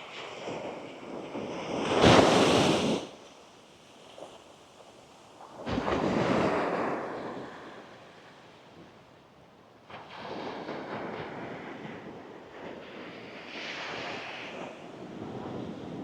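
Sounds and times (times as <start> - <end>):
surf washing up beach: 0.1 - 9.0, 9.9 - 16.0.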